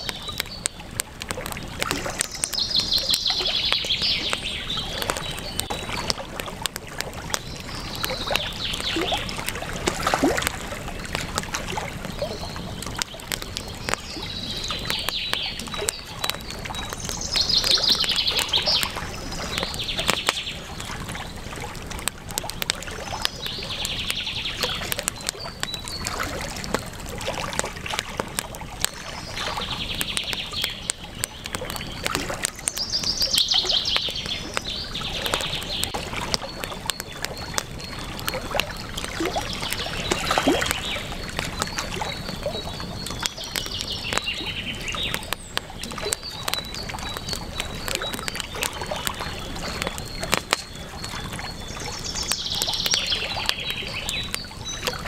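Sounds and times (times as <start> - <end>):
campfire crackling: 0.0 - 55.0
songbirds trilling: 0.0 - 55.0.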